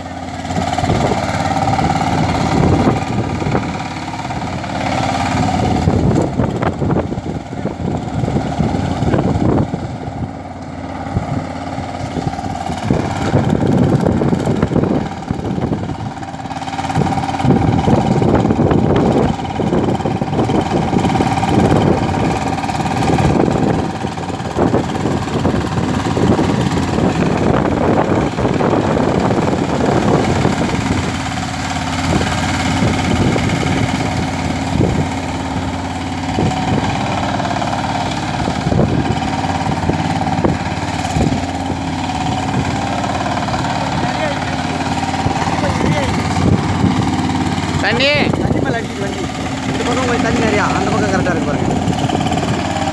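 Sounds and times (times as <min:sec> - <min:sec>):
power tiller diesel engine running: 0:00.0 - 0:52.9.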